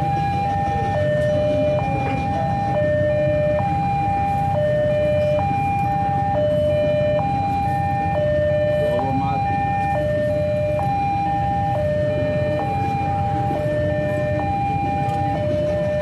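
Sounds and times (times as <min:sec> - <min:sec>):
low rumble of traffic: 0:00.0 - 0:16.0
two-tone level crossing alarm: 0:00.0 - 0:16.0.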